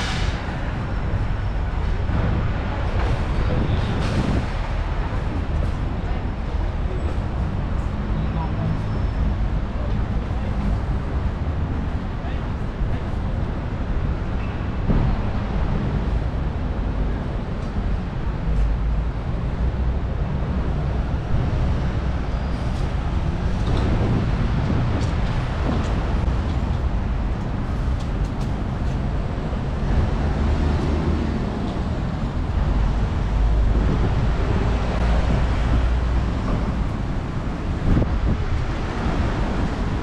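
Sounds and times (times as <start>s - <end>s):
city road traffic: 0.0s - 40.0s.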